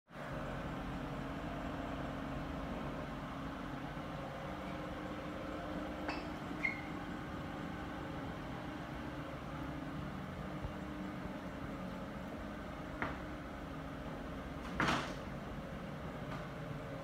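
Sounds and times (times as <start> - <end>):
low mechanical hum: 0.1 - 17.0.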